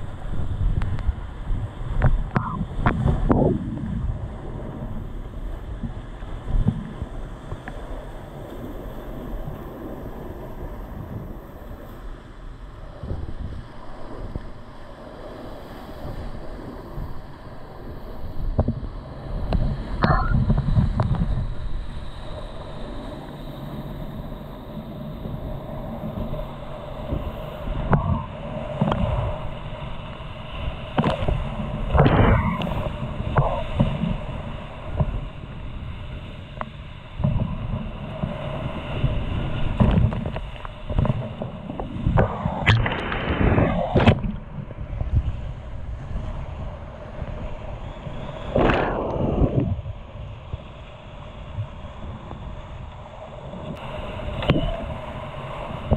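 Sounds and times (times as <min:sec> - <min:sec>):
waves splashing over boat: 0:00.0 - 0:55.9
wind buffeting microphone: 0:00.0 - 0:55.9.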